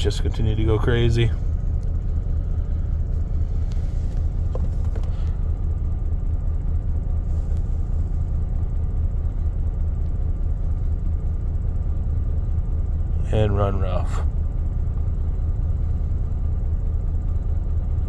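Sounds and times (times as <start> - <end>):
truck engine idling rough: 0.0 - 18.0.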